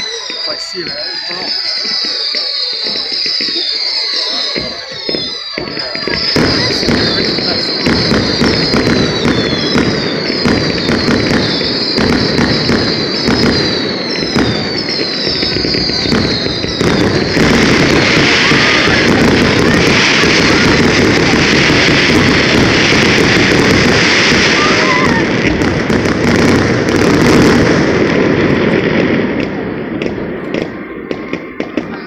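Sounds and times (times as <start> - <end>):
crackling firework barrage: 0.0 - 32.0
falling firework whistles: 0.0 - 32.0
firework bangs: 0.0 - 32.0.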